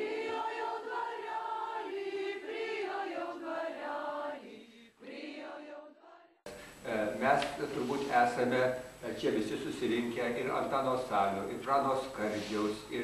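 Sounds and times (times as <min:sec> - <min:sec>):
choir singing sustained chords: 0:00.0 - 0:12.6.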